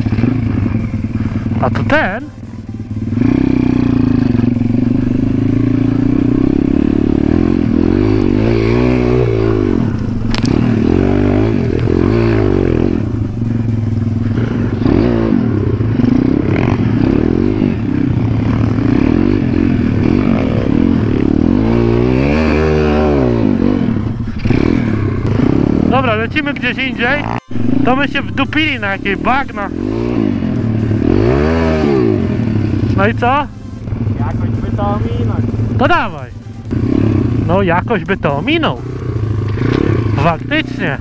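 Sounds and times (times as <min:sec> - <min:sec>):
motorbike engine revving: 0:00.0 - 0:41.0.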